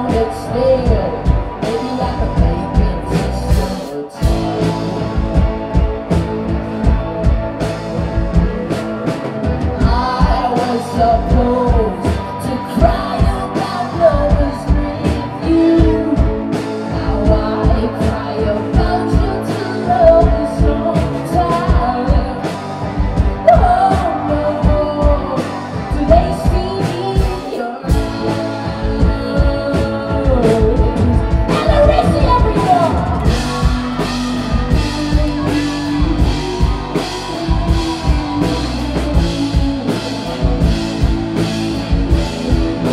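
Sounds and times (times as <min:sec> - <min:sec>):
live rock band playing: 0:00.0 - 0:42.9
person singing: 0:00.0 - 0:42.9.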